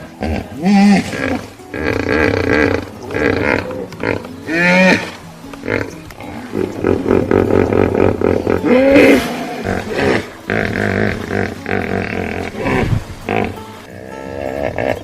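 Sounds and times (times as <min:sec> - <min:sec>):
hippopotamus calling: 0:00.0 - 0:15.0.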